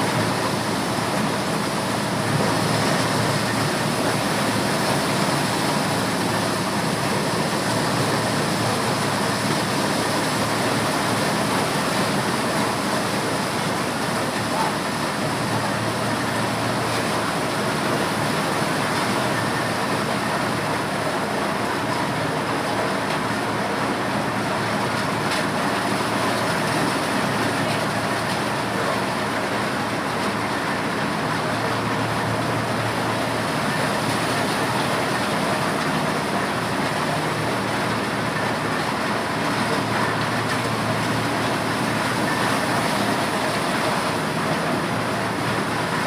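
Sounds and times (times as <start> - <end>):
corn sheller machine running: 0.0 - 46.0.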